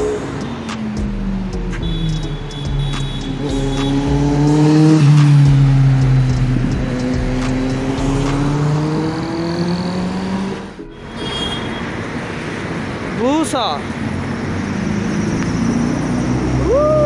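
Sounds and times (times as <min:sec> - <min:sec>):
vehicle engine accelerating: 0:00.0 - 0:13.2, 0:13.9 - 0:17.0.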